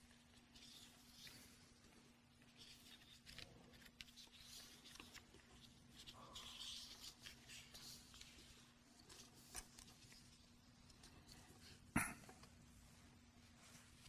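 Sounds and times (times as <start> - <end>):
faint steady hum: 0.0 - 14.0
paper sheets rustling: 0.1 - 11.8.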